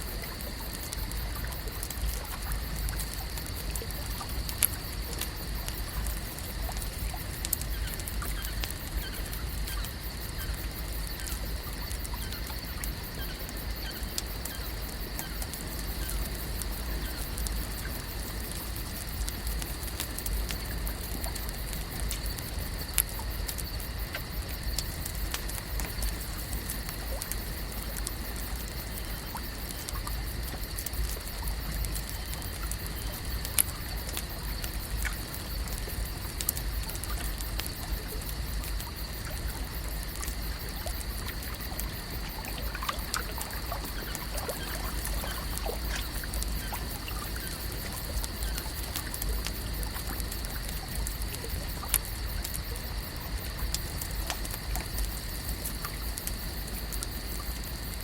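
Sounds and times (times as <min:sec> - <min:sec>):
water lapping and trickling: 0:00.0 - 0:58.0.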